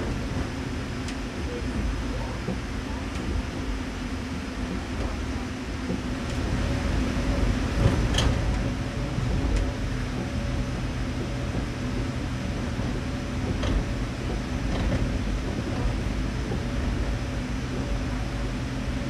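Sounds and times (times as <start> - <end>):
train motor hum: 0.0 - 19.0
wheel-on-rail rumble: 0.0 - 19.0.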